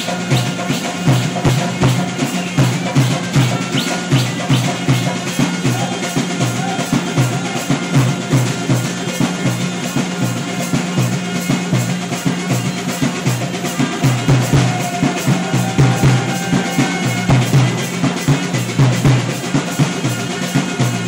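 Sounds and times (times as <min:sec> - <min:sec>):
drums beating dance rhythm: 0:00.0 - 0:21.0.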